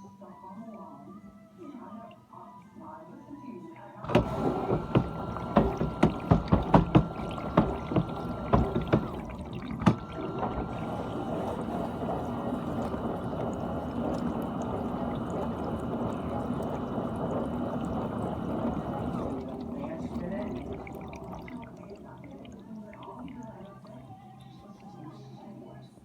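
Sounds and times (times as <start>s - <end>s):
thin steady whine: 2.8s - 26.0s
water spraying in dishwasher: 4.0s - 25.0s.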